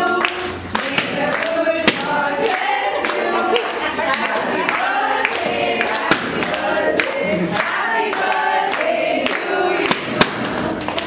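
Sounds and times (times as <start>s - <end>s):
group of people singing: 0.0s - 11.0s
sharp claps or pops: 0.2s - 4.3s, 5.2s - 11.0s.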